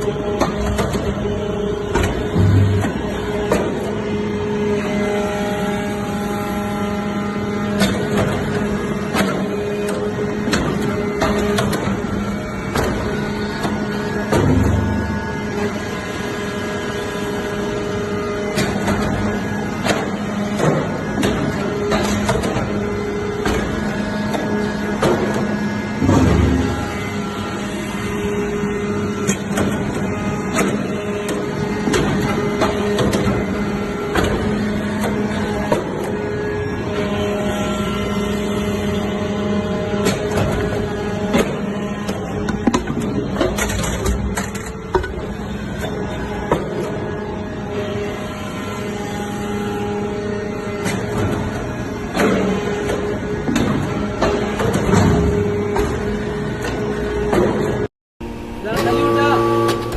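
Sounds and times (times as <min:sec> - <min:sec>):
hydraulic power unit hum: 0:00.0 - 0:59.9.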